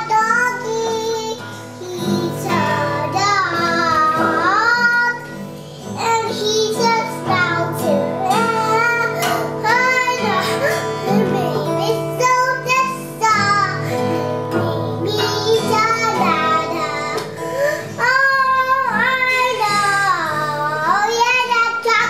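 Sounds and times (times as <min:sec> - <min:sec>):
acoustic guitar strings strummed: 0:00.0 - 0:22.0
toddler singing: 0:00.0 - 0:22.0.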